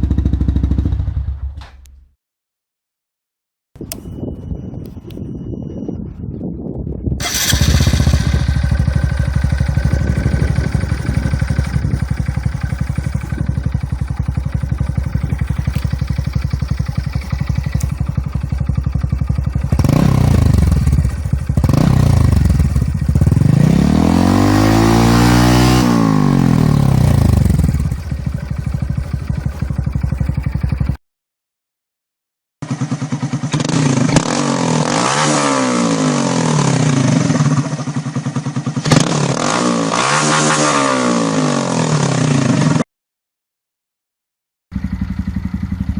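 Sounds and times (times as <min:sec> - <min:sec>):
motorcycle engine idling and revving: 0:00.0 - 0:02.0, 0:06.2 - 0:31.0, 0:32.6 - 0:42.9, 0:44.7 - 0:45.9.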